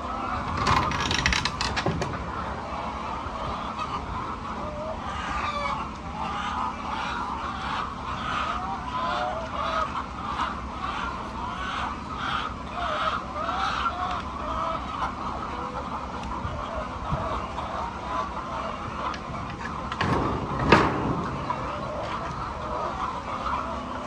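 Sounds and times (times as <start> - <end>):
chickens clucking and calling: 0.0 - 24.0.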